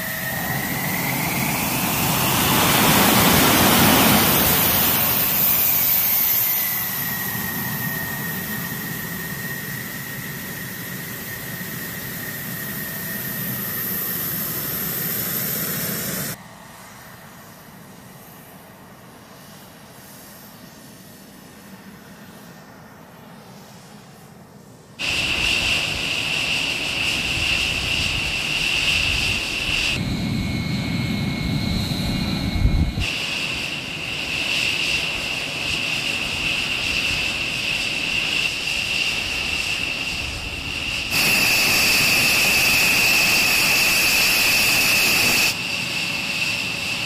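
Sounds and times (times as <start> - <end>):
jet engine whine: 0.0 - 47.0.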